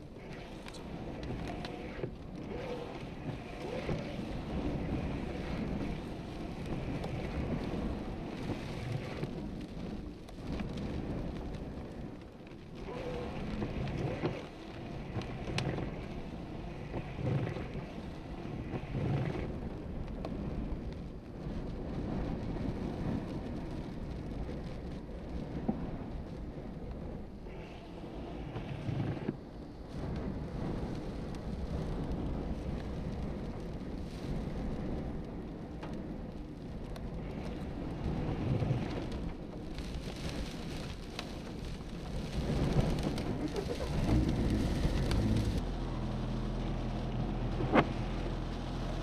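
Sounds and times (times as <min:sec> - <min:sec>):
gusty wind: 0:00.0 - 0:49.0
heavy rain: 0:00.0 - 0:49.0.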